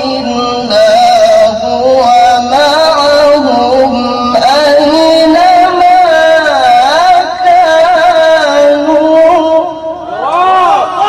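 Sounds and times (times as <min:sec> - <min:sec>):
man reciting melodically: 0:00.0 - 0:10.2.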